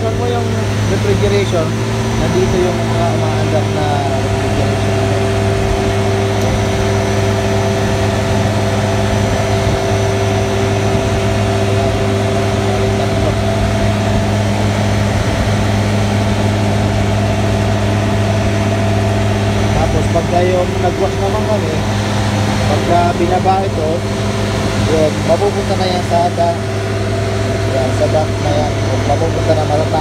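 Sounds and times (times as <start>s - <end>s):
refrigeration compressor hum: 0.0s - 30.0s.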